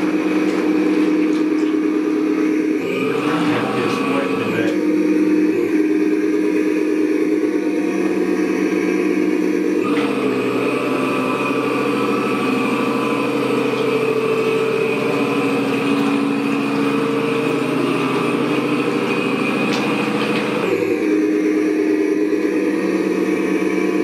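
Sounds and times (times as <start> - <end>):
model boat motor humming: 0.0 - 24.0.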